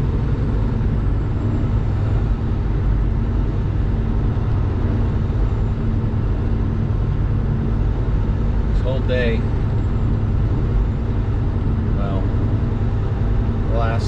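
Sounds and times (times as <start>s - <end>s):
diesel truck engine droning: 0.0s - 14.0s.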